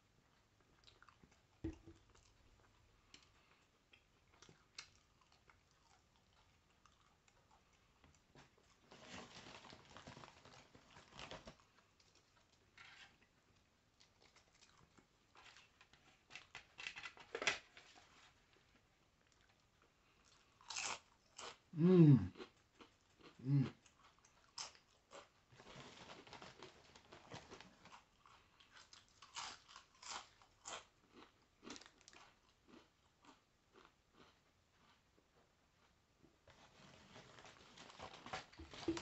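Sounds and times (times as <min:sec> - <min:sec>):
chewing and crunching chips: 0:00.0 - 0:39.0.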